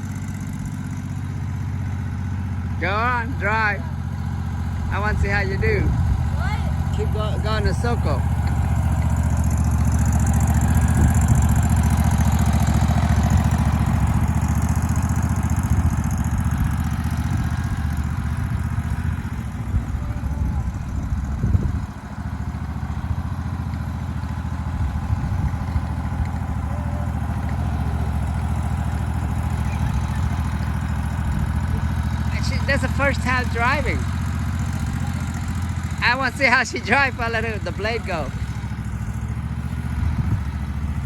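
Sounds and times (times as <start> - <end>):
riding lawn mower engine running: 0.0 - 41.0.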